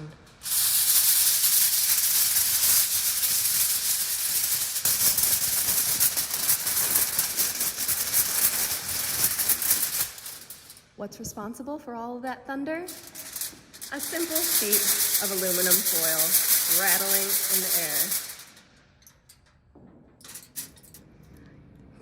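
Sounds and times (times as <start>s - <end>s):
aluminum foil crinkling rattle: 0.3s - 10.9s, 12.9s - 19.5s, 20.2s - 21.0s.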